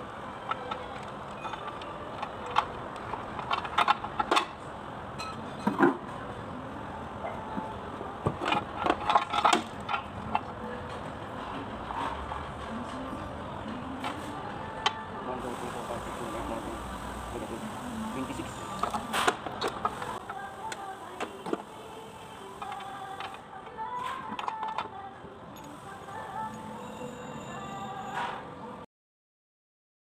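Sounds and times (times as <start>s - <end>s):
steady background noise: 0.0s - 28.9s.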